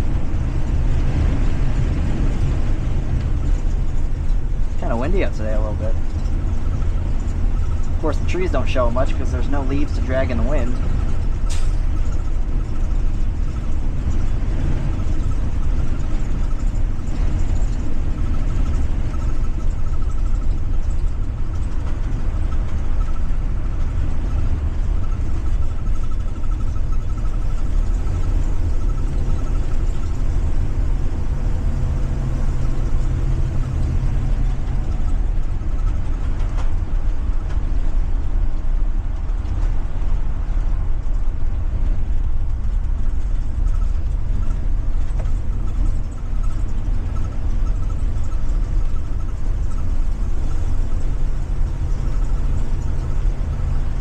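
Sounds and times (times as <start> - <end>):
bus engine rumbling: 0.0 - 54.0
road noise: 0.0 - 54.0.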